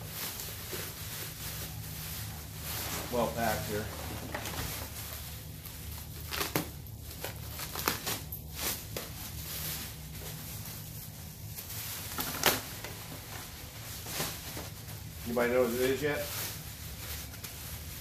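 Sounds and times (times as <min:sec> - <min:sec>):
bubble wrap crinkling: 0:00.0 - 0:18.0
plastic crackles: 0:00.0 - 0:18.0.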